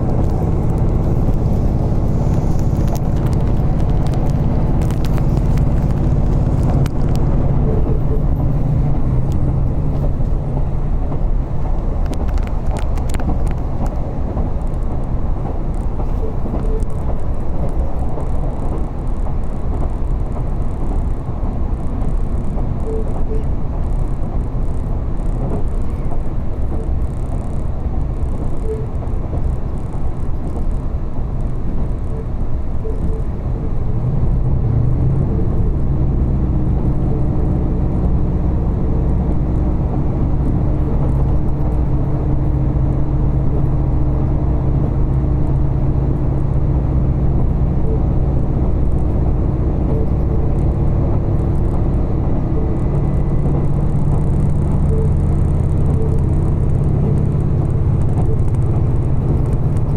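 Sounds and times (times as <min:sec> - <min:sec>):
diesel engine drone: 0:00.0 - 0:59.9
train wheels rumbling on track: 0:00.0 - 0:59.9.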